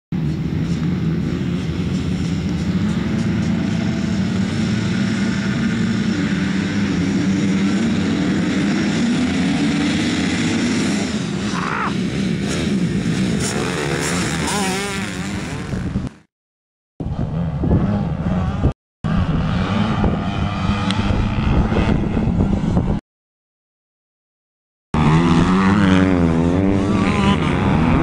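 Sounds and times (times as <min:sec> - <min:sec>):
motocross bikes revving and accelerating: 0:00.2 - 0:16.3, 0:17.0 - 0:22.7, 0:25.0 - 0:28.0.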